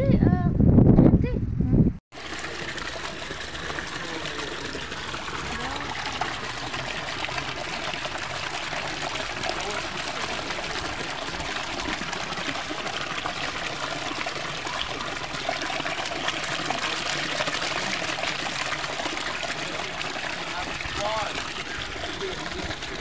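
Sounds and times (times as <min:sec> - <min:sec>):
water splashing into basin: 0:02.1 - 0:23.0.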